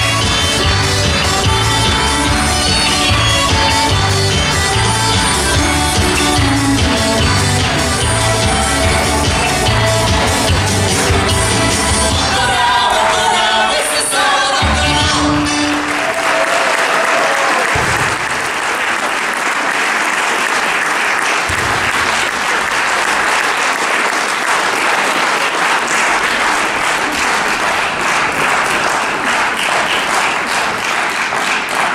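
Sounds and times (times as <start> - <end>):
audience applauding: 0.0 - 12.0, 15.6 - 31.9.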